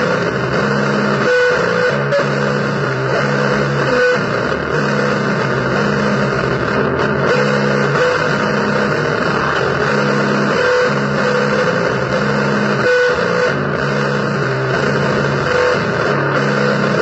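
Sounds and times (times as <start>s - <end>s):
harsh distorted noise music: 0.0s - 17.0s
low pitched drone: 1.9s - 17.0s.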